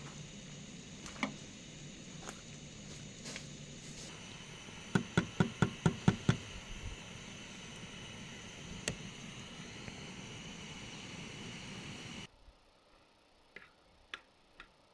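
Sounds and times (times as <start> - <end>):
faint steady hiss: 0.0 - 14.9.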